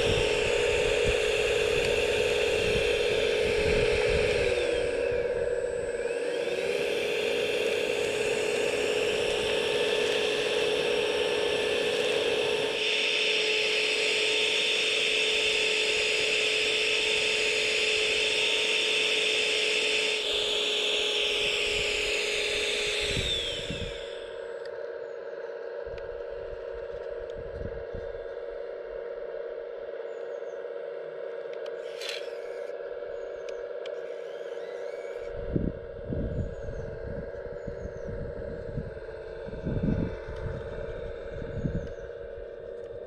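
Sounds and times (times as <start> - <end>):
hydraulic pump whining: 0.0 - 43.0.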